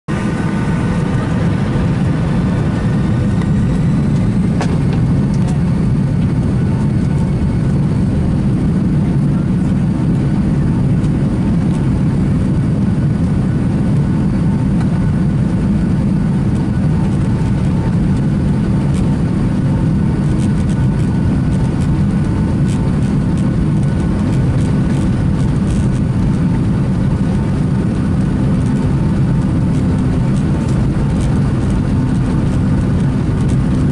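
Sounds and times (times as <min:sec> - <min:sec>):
jet engines roaring at takeoff: 0:00.1 - 0:33.9.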